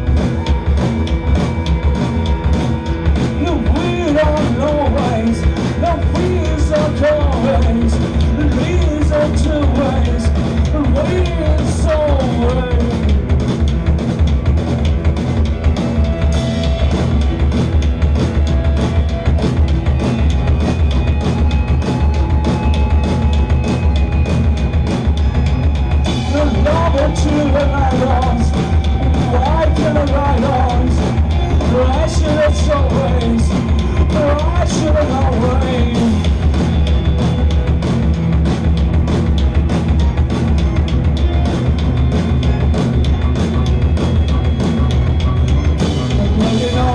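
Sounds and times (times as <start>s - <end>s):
drums fast beat: 0.0s - 46.9s
rock band playing: 0.0s - 46.9s.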